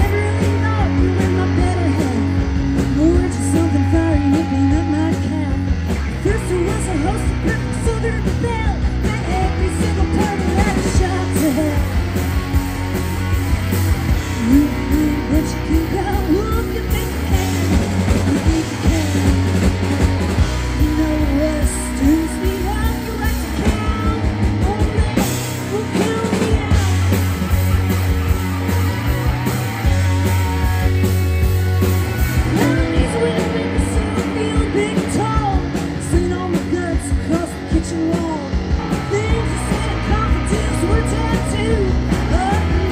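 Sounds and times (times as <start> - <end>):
woman singing: 0.0 - 12.0, 14.3 - 19.7, 20.5 - 27.1, 32.4 - 42.9
rock band playing: 0.0 - 42.9.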